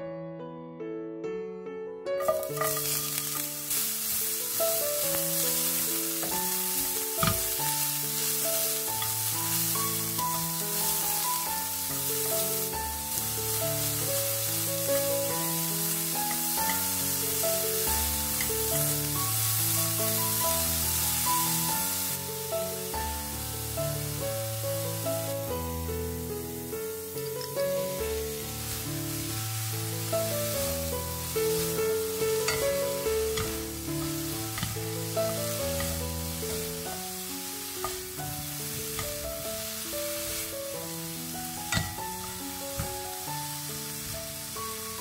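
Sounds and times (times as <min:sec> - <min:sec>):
light background music: 0:02.1 - 0:45.0
root sizzling in frying pan: 0:02.2 - 0:45.0.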